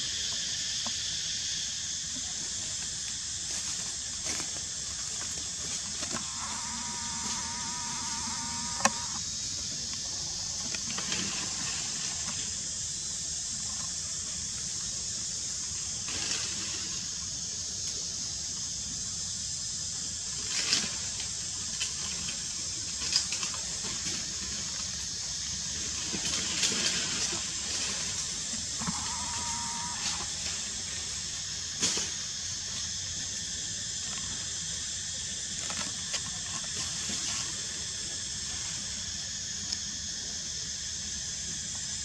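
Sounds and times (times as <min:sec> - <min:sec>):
outdoor background hiss: 0:00.0 - 0:42.0.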